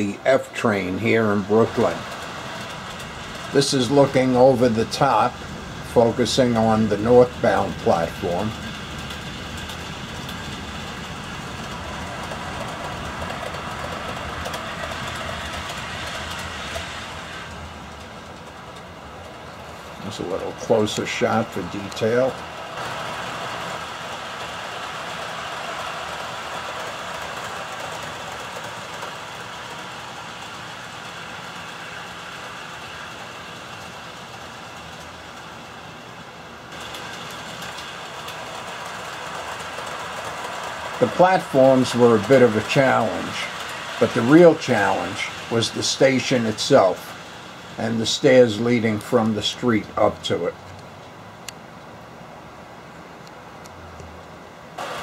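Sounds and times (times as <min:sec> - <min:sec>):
model train rumble: 0:00.0 - 0:55.0
wheels clicking on rails: 0:00.0 - 0:55.0.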